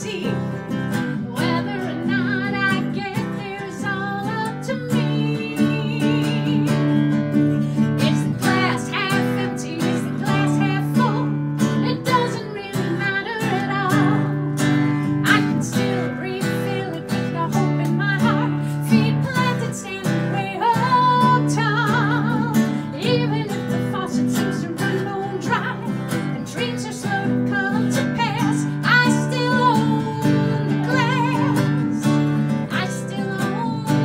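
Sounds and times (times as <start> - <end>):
strummed classical guitar: 0.0 - 34.0
woman singing with vibrato: 0.0 - 34.0.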